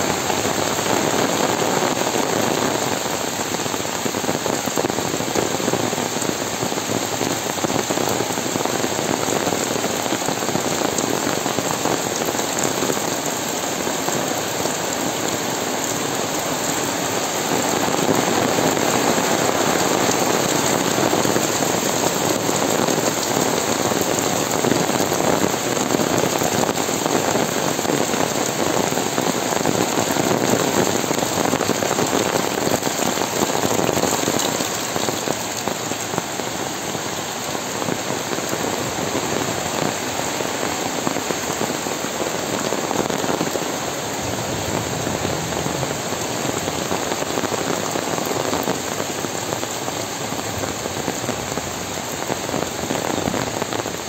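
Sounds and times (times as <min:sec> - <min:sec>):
heavy rain on foliage and pavement: 0:00.0 - 0:54.0.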